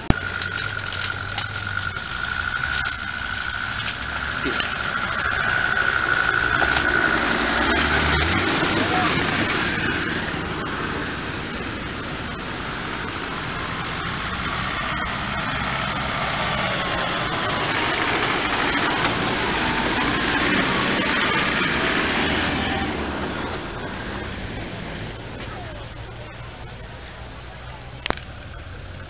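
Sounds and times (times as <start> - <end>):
off-road vehicle engine running: 0.0 - 29.0
rustle of vegetation: 0.0 - 29.0.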